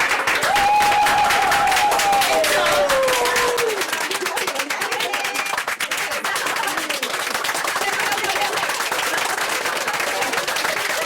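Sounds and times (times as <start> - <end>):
people clapping fast: 0.0 - 11.0.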